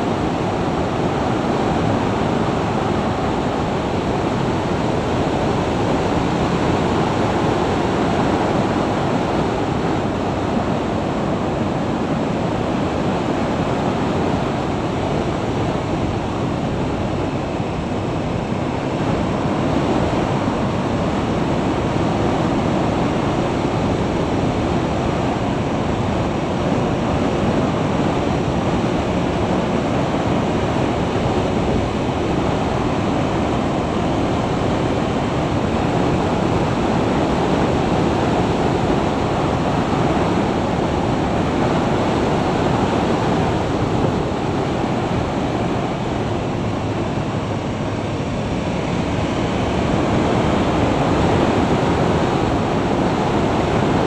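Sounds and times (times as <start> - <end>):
road and engine noise: 0.0 - 54.0
wind rush on microphone: 0.0 - 54.0.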